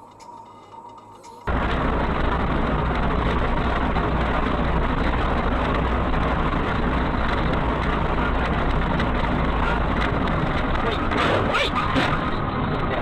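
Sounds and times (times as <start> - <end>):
low hum: 0.0 - 13.0
car driving: 0.8 - 13.0.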